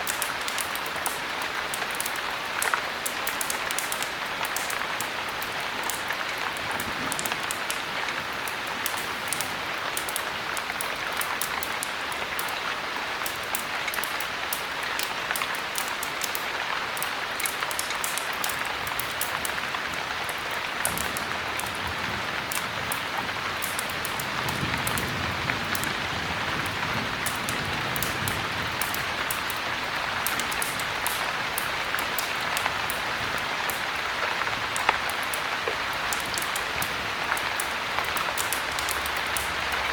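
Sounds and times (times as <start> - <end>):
heavy rain: 0.0 - 39.9
wood fire crackling: 0.0 - 39.9.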